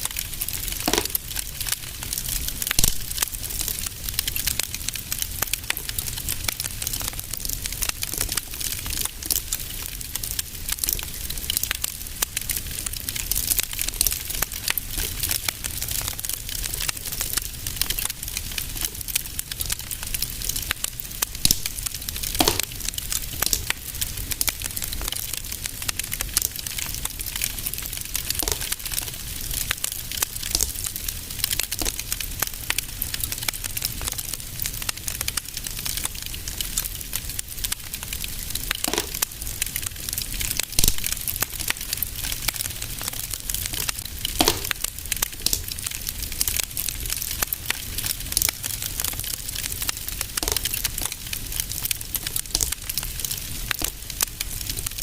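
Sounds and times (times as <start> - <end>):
loud fire pops: 0.0 - 55.0
wood fire crackling: 0.0 - 55.0.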